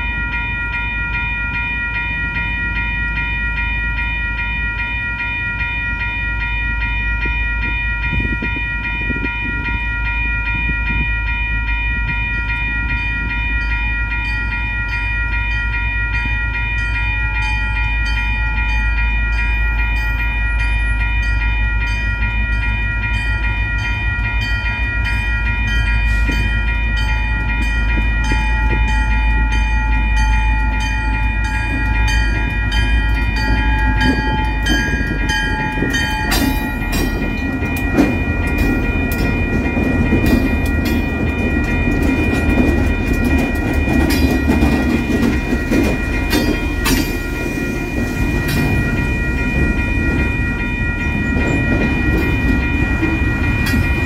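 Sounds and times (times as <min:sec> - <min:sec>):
high ringing tones: 0:00.0 - 0:54.0
train deep rumble: 0:00.0 - 0:54.0.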